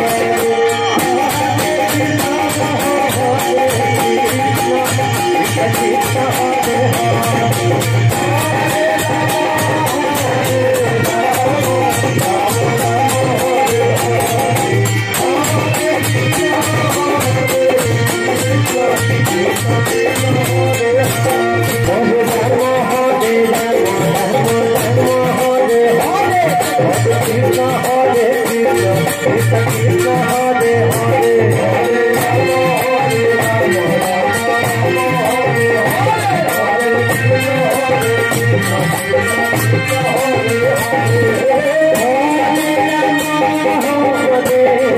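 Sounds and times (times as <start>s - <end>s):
jingling percussion beat: 0.0s - 44.9s
man singing into microphone: 0.0s - 44.9s.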